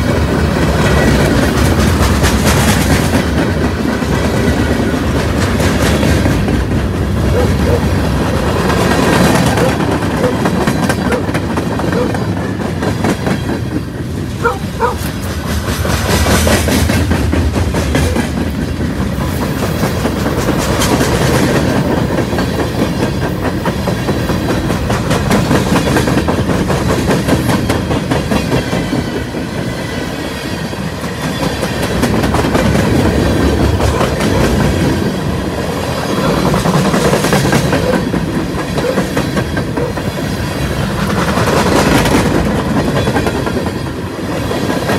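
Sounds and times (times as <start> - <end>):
freight train wheels clattering: 0.0 - 44.9.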